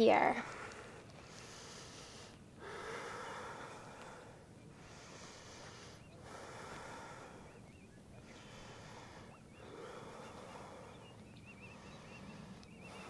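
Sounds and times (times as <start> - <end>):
deep breathing: 0.4 - 13.0.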